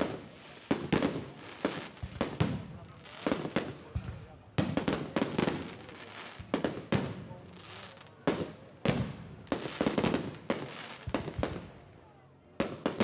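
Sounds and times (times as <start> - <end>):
fireworks bursting: 0.0 - 11.8.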